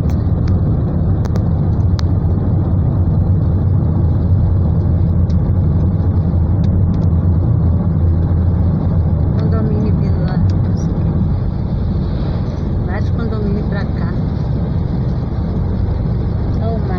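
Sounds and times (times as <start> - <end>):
car driving rumble inside cabin: 0.0 - 16.9.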